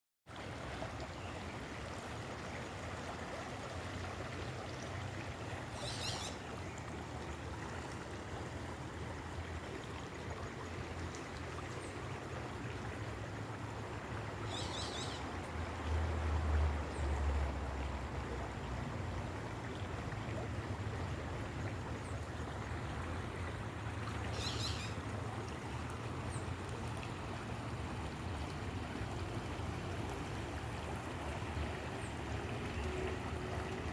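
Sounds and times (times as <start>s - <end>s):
running water rushing: 0.3s - 33.9s.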